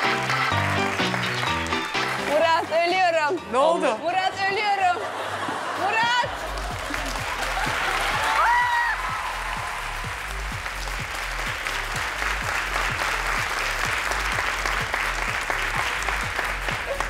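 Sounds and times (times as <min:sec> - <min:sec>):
audience applauding: 0:00.0 - 0:03.0, 0:05.3 - 0:17.0
background music with steady beat: 0:00.0 - 0:17.0.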